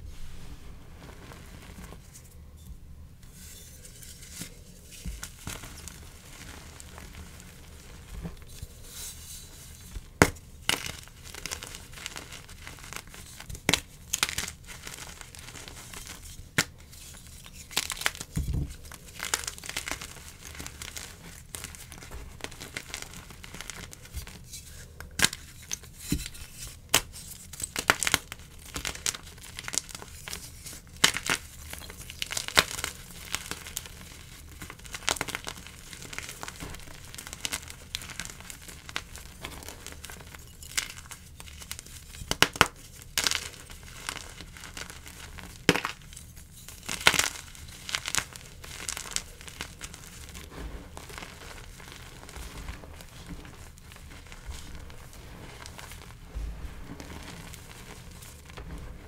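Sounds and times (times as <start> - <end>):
chalk crumbling by hand: 3.2 - 59.0.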